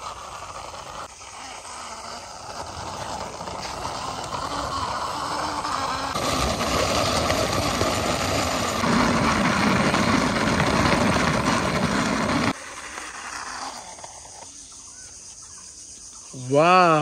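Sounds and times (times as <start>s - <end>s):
toy truck wheels grinding on concrete: 0.0s - 15.0s
faint outdoor background: 0.0s - 17.0s.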